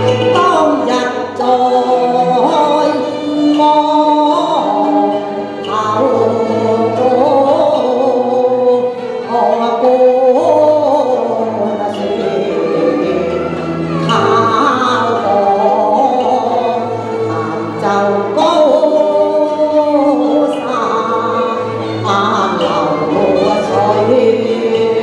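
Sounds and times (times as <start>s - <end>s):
instrumental accompaniment: 0.0s - 25.0s
woman singing: 0.0s - 25.0s.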